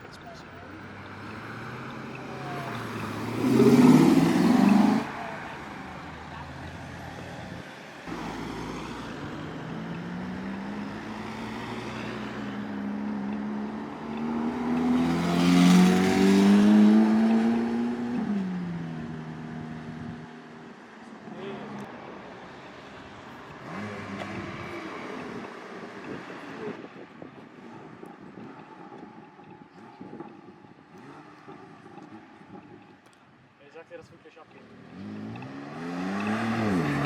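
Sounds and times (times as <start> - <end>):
sports car engines accelerating: 0.0 - 37.0
engine revving up: 0.8 - 20.3, 23.5 - 26.8, 27.7 - 33.1, 34.6 - 37.0.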